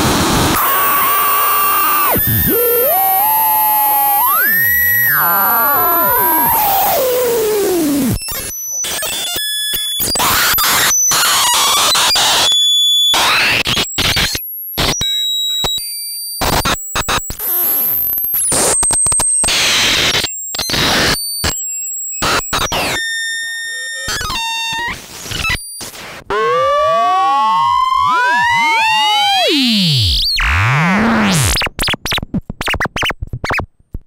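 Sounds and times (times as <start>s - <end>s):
harsh glitchy synthesizer noise: 0.0s - 12.5s, 13.1s - 15.0s, 16.4s - 21.6s, 22.2s - 33.6s.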